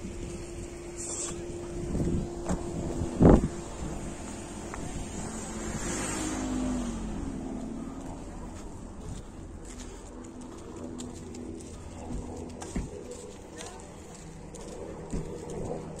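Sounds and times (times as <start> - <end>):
outdoor background noise: 0.0 - 16.0
vehicle passing: 0.0 - 16.0.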